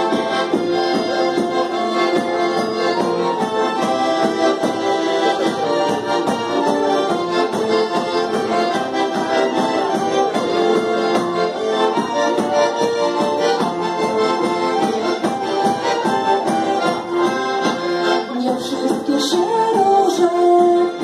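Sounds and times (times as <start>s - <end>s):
accordions playing folk dance tune: 0.0s - 21.0s
hand percussion beat: 0.0s - 21.0s.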